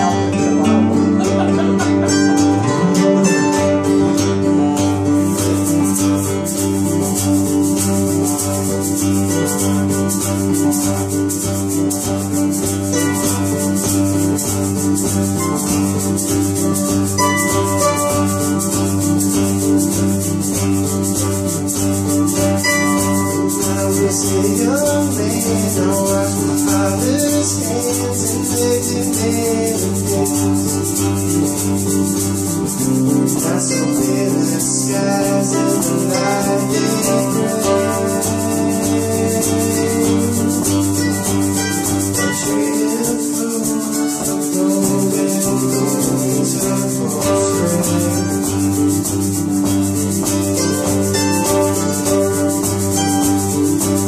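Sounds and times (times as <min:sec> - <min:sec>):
strummed acoustic guitars: 0:00.0 - 0:54.0.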